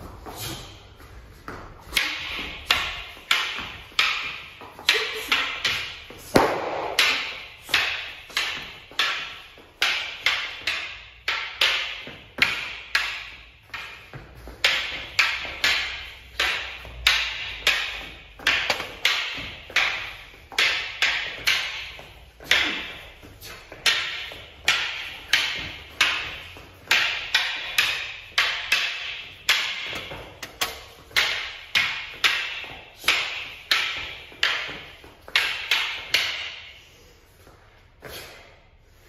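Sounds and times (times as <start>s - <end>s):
wooden staffs clacking: 0.0s - 38.8s.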